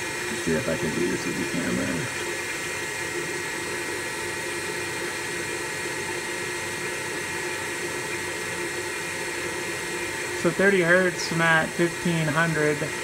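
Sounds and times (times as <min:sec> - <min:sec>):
electric motor hum and whine: 0:00.0 - 0:13.0
motor fan air rush: 0:00.0 - 0:13.0.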